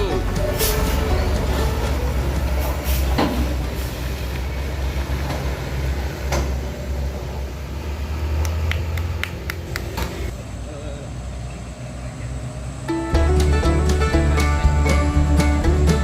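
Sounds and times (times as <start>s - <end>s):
diesel truck engine rumbling: 0.0s - 16.0s
vehicle rattles: 0.0s - 16.0s.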